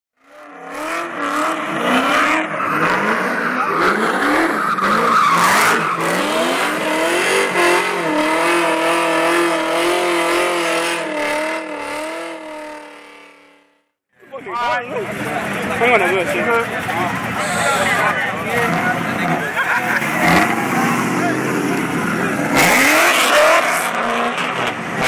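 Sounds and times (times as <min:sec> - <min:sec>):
engine revving hard: 0:00.3 - 0:13.0, 0:17.4 - 0:25.0
tires squealing: 0:00.3 - 0:13.2, 0:15.1 - 0:25.0.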